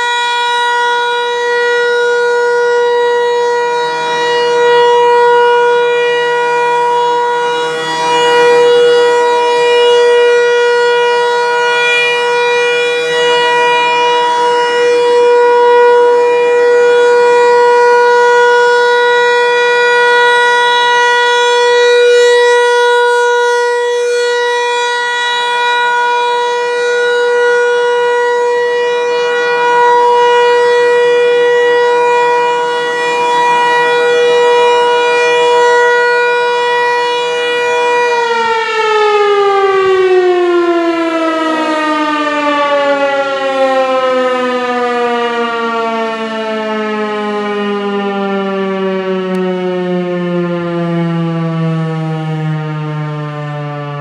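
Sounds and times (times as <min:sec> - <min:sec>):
tornado siren wailing: 0:00.0 - 0:54.0.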